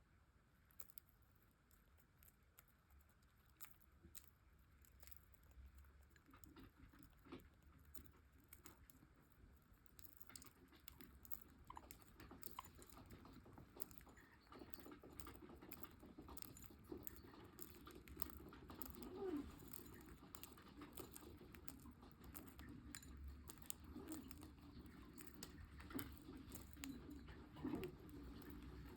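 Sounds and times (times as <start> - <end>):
birds cracking seeds: 1.8 - 28.9.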